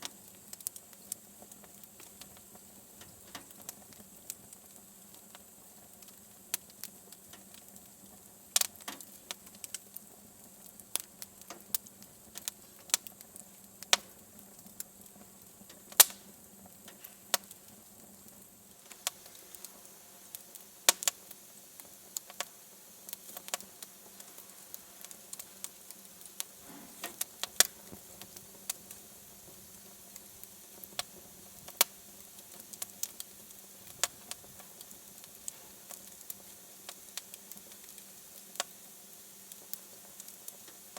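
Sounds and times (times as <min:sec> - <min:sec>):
faint steady hiss: 0:00.0 - 0:40.9
wood fire crackling: 0:00.0 - 0:40.9.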